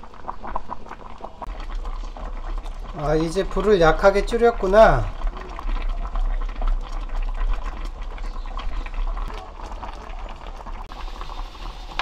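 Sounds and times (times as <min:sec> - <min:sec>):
sauce bubbling and crackling: 0:00.0 - 0:12.0.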